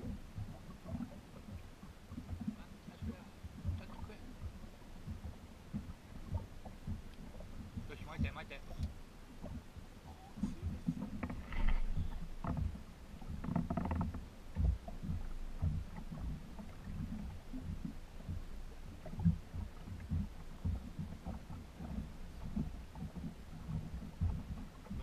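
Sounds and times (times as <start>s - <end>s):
water slapping boat hull: 0.0s - 25.0s.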